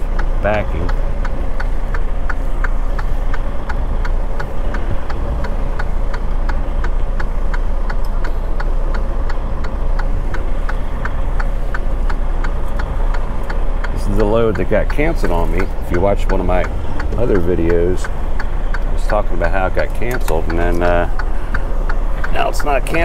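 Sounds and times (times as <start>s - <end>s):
diesel engine running at low revs: 0.0s - 23.0s.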